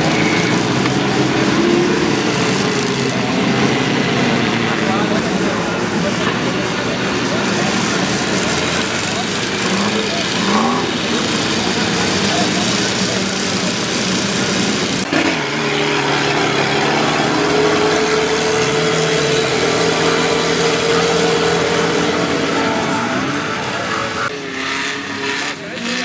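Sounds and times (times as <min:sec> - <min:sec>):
off-road vehicle engines revving: 0:00.0 - 0:26.0.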